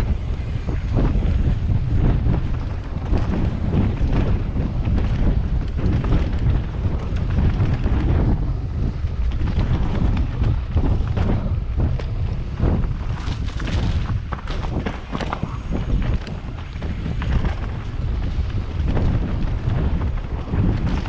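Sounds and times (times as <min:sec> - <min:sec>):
bike rattles and knocks: 0:00.0 - 0:21.0
wind buffeting microphone: 0:00.0 - 0:21.0.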